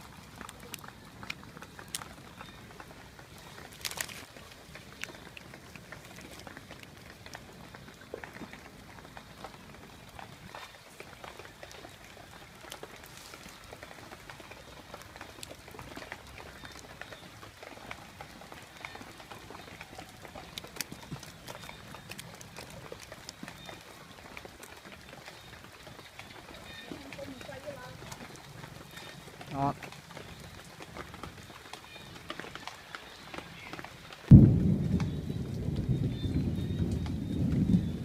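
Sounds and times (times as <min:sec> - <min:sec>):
wet leaves and twigs crackling: 0:00.0 - 0:38.0.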